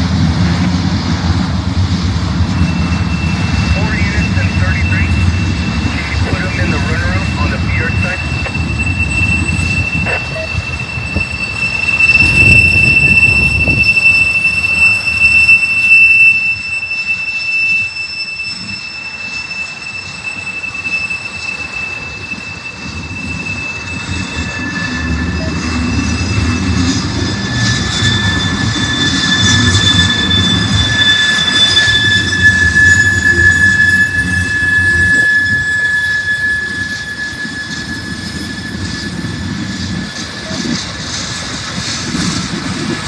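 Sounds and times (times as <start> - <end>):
freight train rumbling past: 0.0 - 43.0
high-pitched wheel squeal: 2.3 - 43.0
lower wheel squeal: 2.3 - 43.0.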